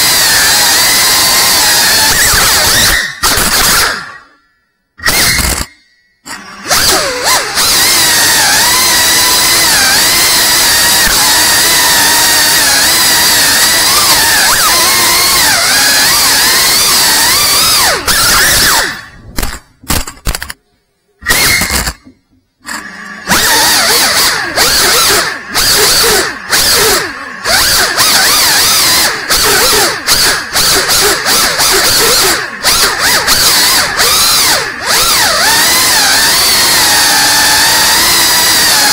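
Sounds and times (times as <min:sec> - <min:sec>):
drone motors and propellers whining: 0:00.0 - 0:20.6, 0:21.2 - 0:38.9.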